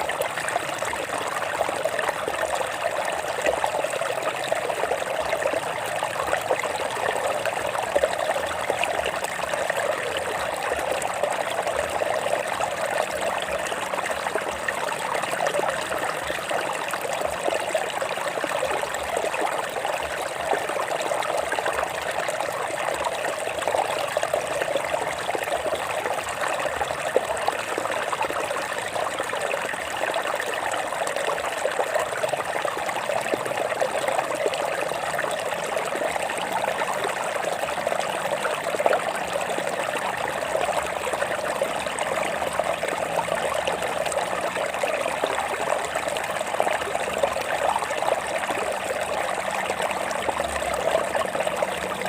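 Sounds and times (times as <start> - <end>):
stream flowing over rocks: 0.0 - 52.0.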